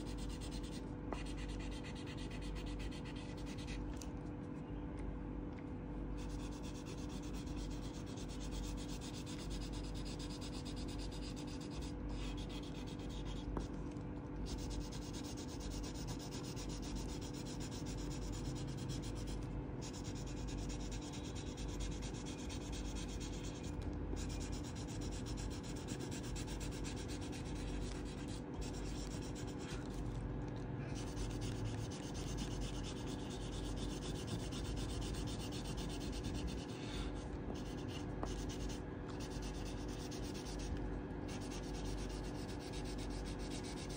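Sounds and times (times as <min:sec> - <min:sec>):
pencil scratching on paper: 0:00.0 - 0:03.8, 0:06.2 - 0:13.7, 0:14.4 - 0:30.0, 0:31.0 - 0:43.9.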